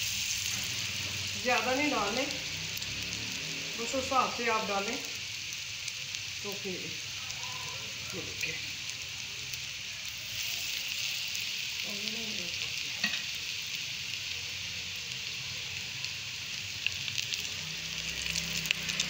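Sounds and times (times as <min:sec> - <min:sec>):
food sizzling in hot fat: 0:00.0 - 0:19.0
sharp frying crackles: 0:00.0 - 0:19.0.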